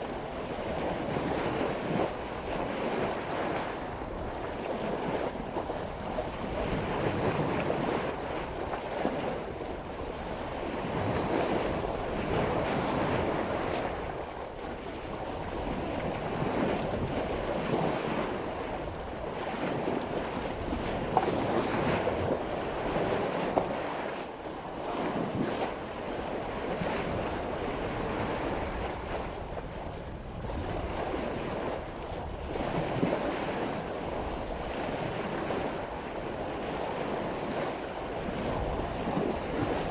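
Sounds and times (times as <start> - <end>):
water rushing along boat hull: 0.0 - 39.9
wind buffeting microphone: 0.0 - 39.9.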